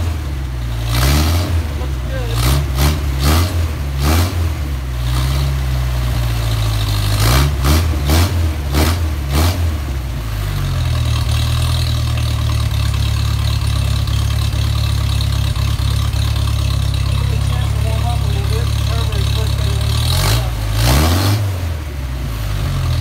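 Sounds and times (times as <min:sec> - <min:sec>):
car engine revving and idling: 0:00.0 - 0:23.0.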